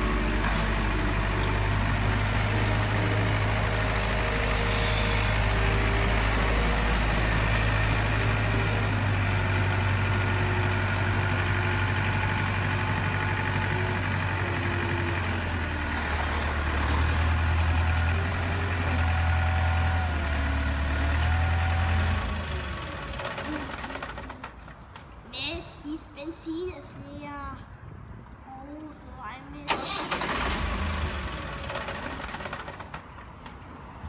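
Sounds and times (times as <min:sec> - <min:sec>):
diesel engine humming: 0:00.0 - 0:27.2, 0:29.9 - 0:34.0.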